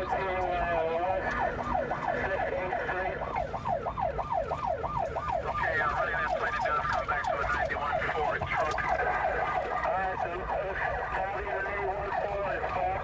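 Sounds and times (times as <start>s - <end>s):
police siren yelping: 0.0s - 13.0s
vehicle engine and road noise: 0.0s - 13.0s.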